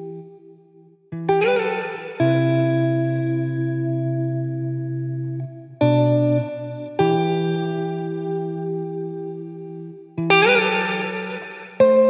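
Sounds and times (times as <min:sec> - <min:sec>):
slow guitar chords: 0:00.0 - 0:12.0.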